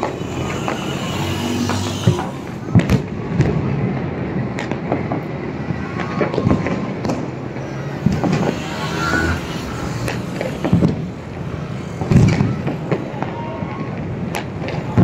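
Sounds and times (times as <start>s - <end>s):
firecrackers popping and banging: 0.0s - 15.0s
steady background din: 0.0s - 15.0s.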